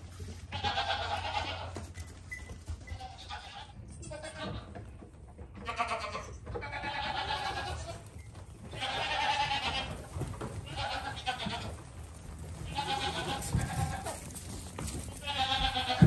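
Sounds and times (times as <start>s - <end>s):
goat kids bleating: 0.4s - 1.9s, 2.9s - 4.8s, 5.6s - 16.0s.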